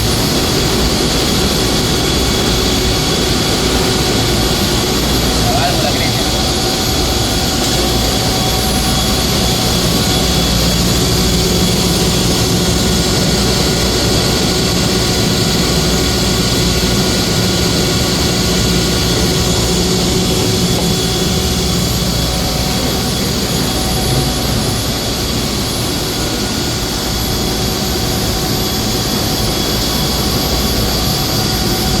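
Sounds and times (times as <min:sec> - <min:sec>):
industrial chiller droning: 0:00.0 - 0:32.0.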